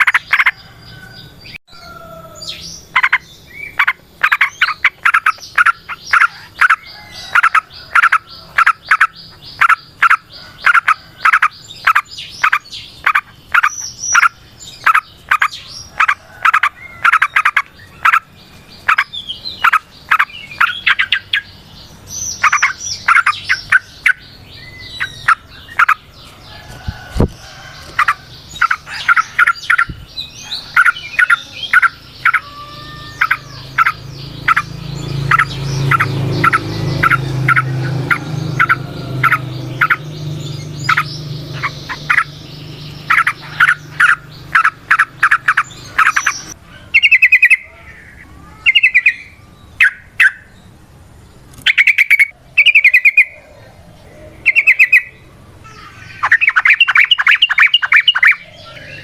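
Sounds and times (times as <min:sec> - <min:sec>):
bird chattering trills: 0:00.0 - 0:50.6, 0:51.5 - 0:59.0.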